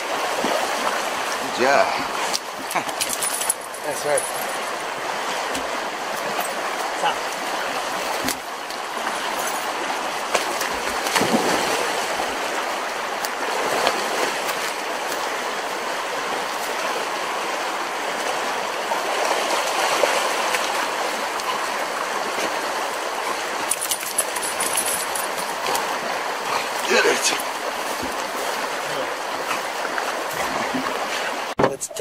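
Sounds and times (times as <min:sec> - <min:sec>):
fast-flowing river rushing: 0:00.0 - 0:31.6.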